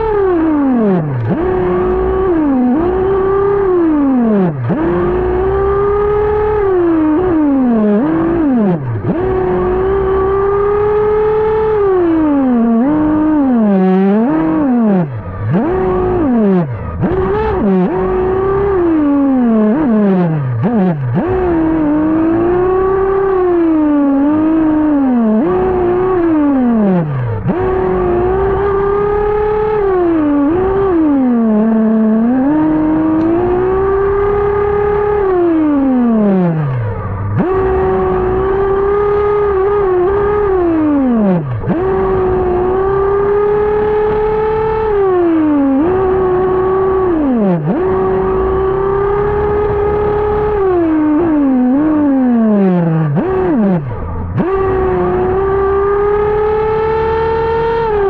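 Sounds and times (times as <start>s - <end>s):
rc buggy engine revving: 0.0s - 58.0s.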